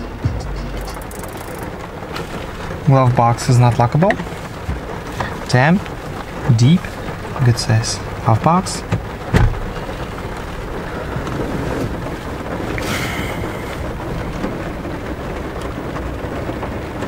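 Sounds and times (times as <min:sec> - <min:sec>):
rain drumming on car roof: 0:00.0 - 0:17.0.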